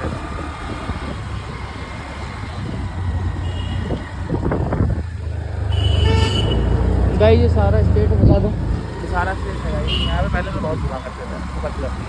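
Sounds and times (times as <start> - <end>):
scooter engine and road rumble: 0.0 - 12.0
traffic noise: 0.0 - 12.0.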